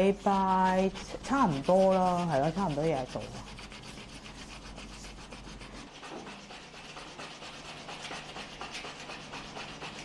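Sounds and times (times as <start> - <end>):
rubbing strokes on painted surface: 0.0 - 10.0.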